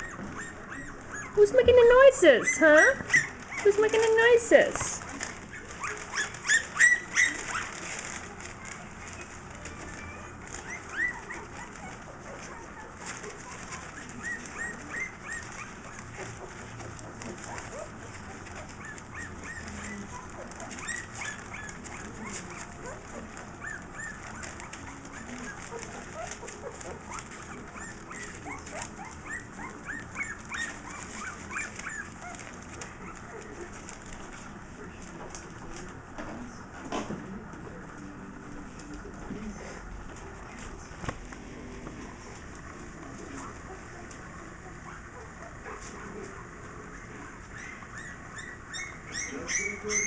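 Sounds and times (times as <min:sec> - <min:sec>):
puppies squeaking and whimpering: 0:00.0 - 0:34.8, 0:42.1 - 0:50.0.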